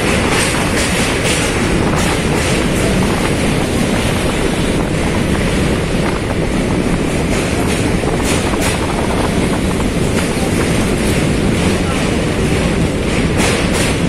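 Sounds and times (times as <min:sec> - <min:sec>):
train wheels on rails: 0:00.0 - 0:14.0
wind buffeting microphone: 0:00.0 - 0:14.0.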